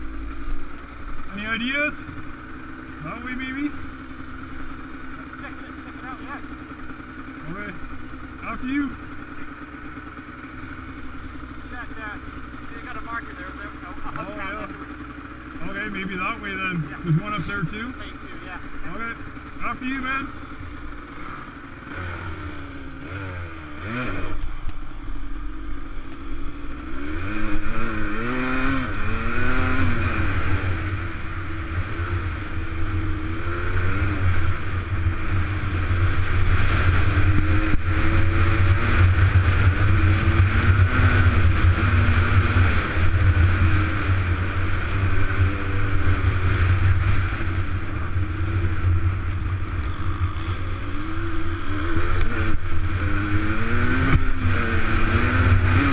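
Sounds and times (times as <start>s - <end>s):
dirt bike engine accelerating: 0.0s - 55.9s
gravel trail noise: 0.0s - 55.9s.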